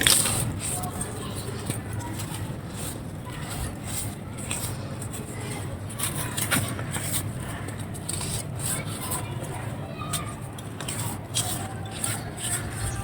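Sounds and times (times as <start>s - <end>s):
dry clay crumbling: 0.0s - 13.0s.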